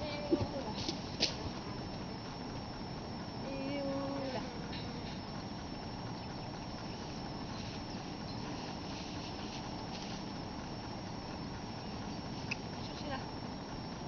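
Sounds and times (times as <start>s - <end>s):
faint high steady tone: 0.0s - 14.0s.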